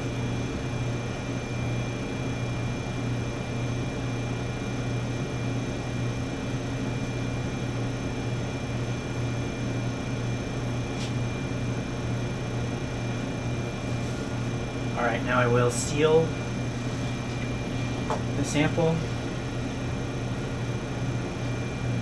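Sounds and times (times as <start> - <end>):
laboratory equipment humming: 0.0 - 22.0.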